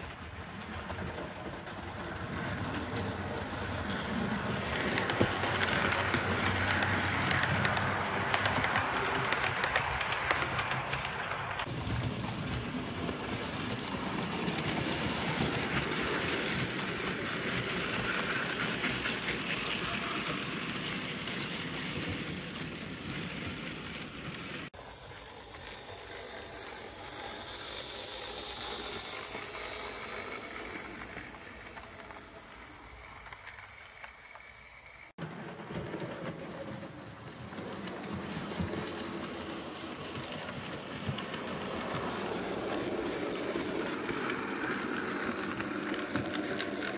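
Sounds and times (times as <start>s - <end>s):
model train wheels rumbling on rail: 0.0s - 46.9s.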